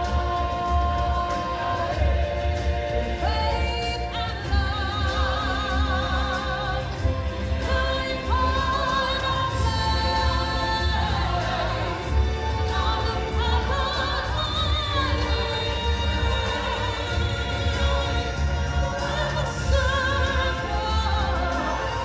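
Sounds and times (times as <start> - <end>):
low pulsing accompaniment: 0.0 - 22.0.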